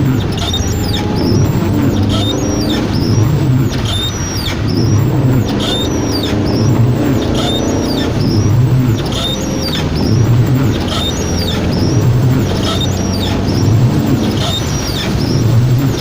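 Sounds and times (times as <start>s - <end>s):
heavy rain: 0.0s - 16.0s
high squeak: 0.0s - 16.0s
low engine hum: 0.0s - 16.0s.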